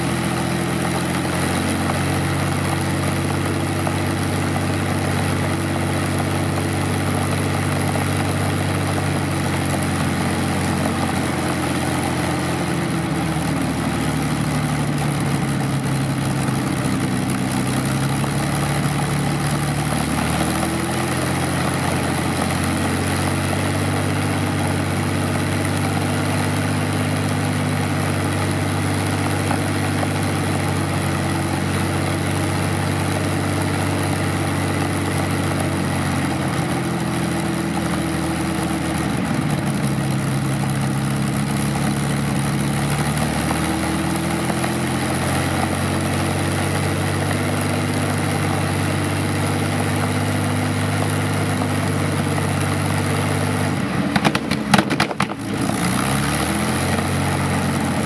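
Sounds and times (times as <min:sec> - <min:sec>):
aircraft piston engine running: 0:00.0 - 0:58.0.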